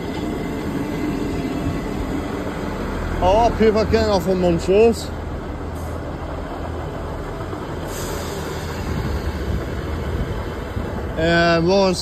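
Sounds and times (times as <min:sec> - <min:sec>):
diesel train engine hum: 0:00.0 - 0:12.0
train carriages rumbling on rails: 0:00.0 - 0:12.0.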